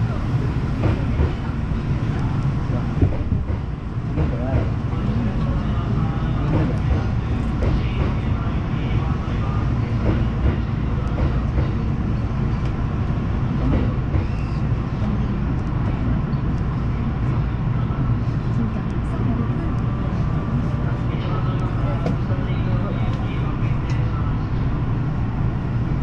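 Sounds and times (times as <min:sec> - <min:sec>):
train rumbling past: 0:00.0 - 0:26.0.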